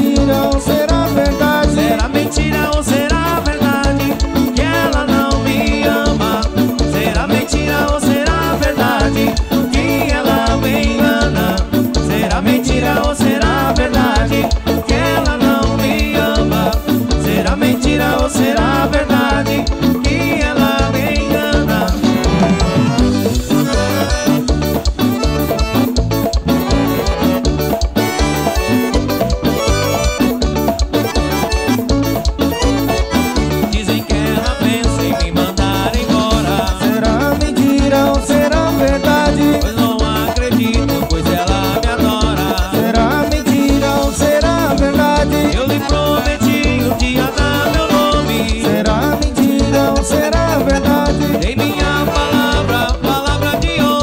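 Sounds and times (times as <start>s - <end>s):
drum kit fast beat: 0.0s - 54.0s
live dance band music: 0.0s - 54.0s.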